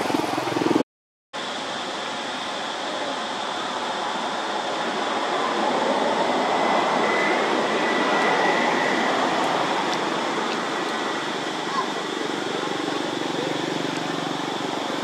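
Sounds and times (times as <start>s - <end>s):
steady rushing noise: 1.4s - 15.0s.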